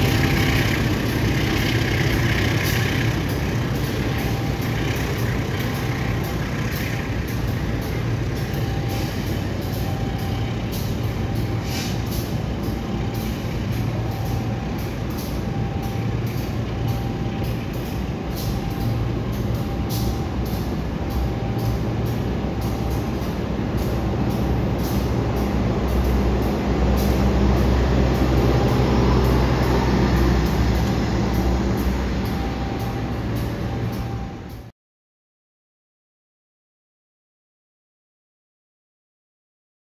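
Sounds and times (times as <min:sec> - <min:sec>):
train wheels rumbling on rail: 0:00.0 - 0:34.7.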